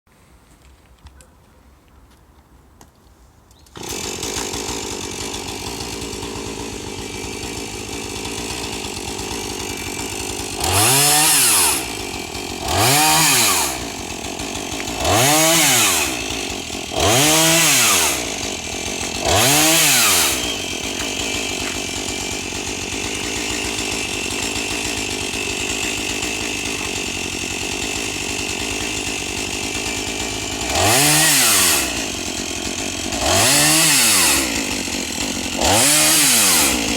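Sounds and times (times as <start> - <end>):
chainsaw engine idling and revving: 3.8 - 36.9.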